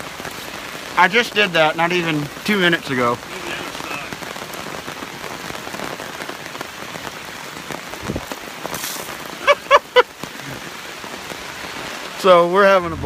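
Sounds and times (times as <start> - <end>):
rain pattering on a tarp: 0.0 - 13.0.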